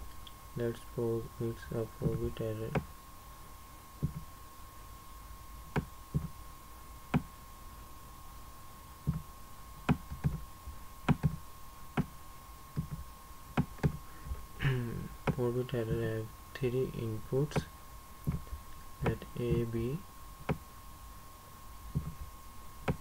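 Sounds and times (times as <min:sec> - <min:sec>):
faint steady whine: 0:00.0 - 0:23.0.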